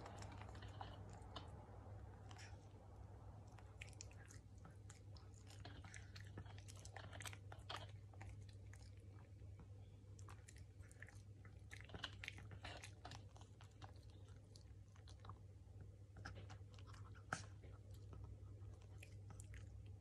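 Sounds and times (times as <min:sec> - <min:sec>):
dog chewing food: 0:00.0 - 0:02.7, 0:03.4 - 0:20.0.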